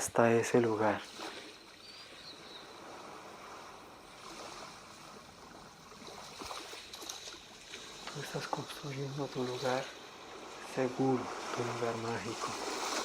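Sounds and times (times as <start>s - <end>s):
faint sea wash: 0.0s - 13.0s.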